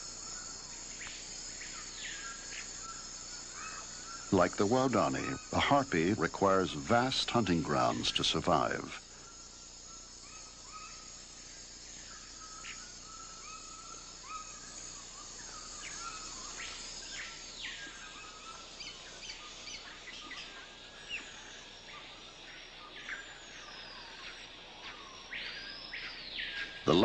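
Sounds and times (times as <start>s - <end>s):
birds calling: 0.0s - 27.0s
insect hiss: 0.0s - 27.0s.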